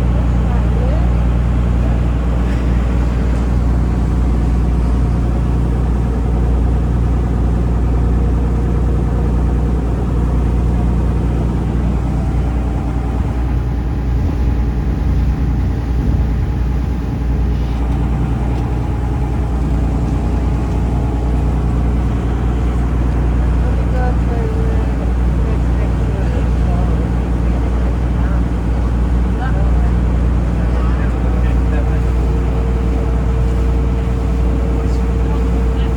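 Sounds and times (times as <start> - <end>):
boat engine droning: 0.0 - 35.9.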